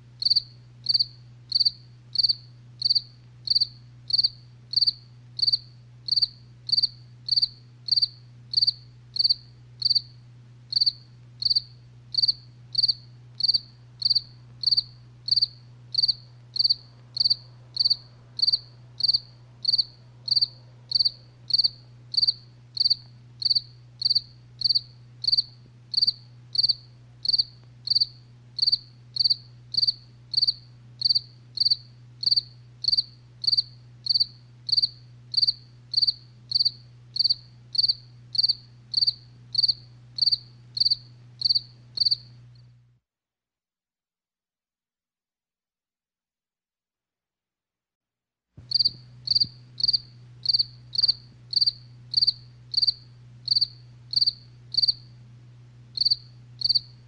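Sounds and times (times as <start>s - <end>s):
faint low hum: 0.0s - 43.0s, 48.6s - 57.0s
cricket chirping: 0.2s - 42.4s, 48.7s - 55.2s, 55.9s - 57.0s.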